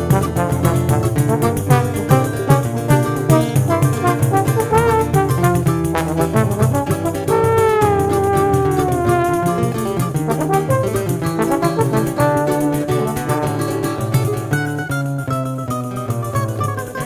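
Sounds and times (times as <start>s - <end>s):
trombone melody: 0.0s - 14.9s
plucked and tapped accompaniment: 0.0s - 17.0s.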